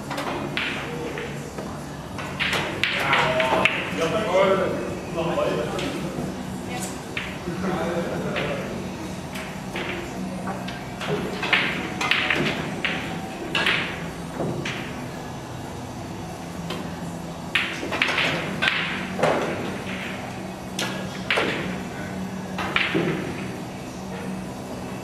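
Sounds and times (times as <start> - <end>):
cue tips striking balls: 0.0 - 15.4, 16.6 - 25.0
pool balls clicking: 0.0 - 25.0.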